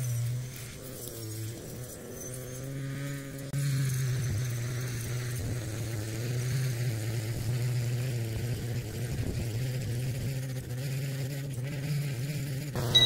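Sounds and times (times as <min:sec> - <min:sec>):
small engine droning: 0:00.0 - 0:13.0.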